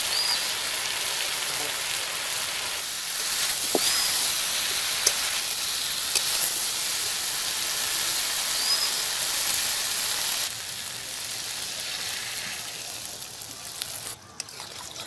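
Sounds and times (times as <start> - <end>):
food sizzling in oil: 0.0 - 14.6.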